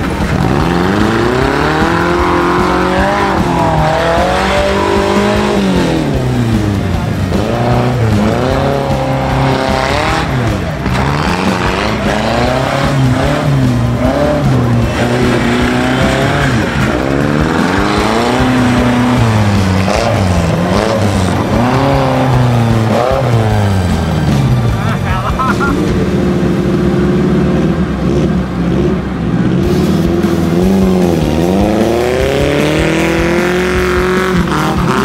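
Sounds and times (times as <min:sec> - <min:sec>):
off-road engine revving hard: 0:00.0 - 0:35.0.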